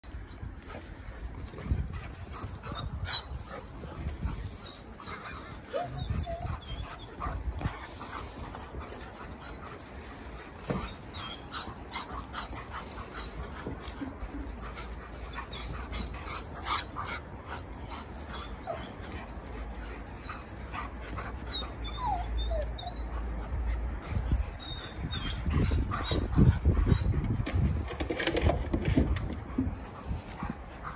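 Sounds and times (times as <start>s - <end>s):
dogs whimpering and yipping: 0.1s - 30.9s.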